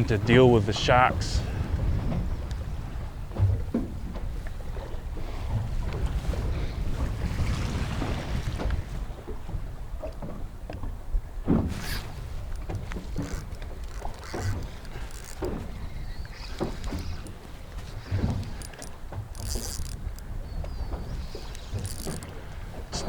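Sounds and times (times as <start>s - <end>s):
water rumbling against boat: 0.0s - 23.0s
wind buffeting microphone: 0.0s - 23.0s.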